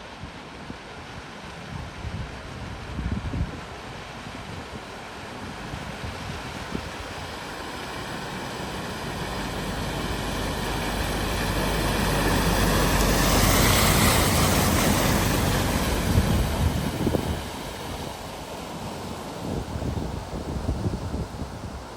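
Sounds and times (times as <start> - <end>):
water rushing from tyres: 0.5 - 21.9.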